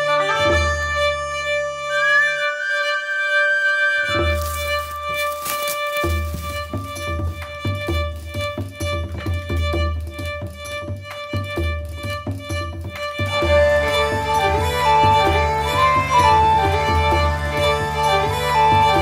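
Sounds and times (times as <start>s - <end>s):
violin tune over pulsing beat: 0.0s - 19.0s.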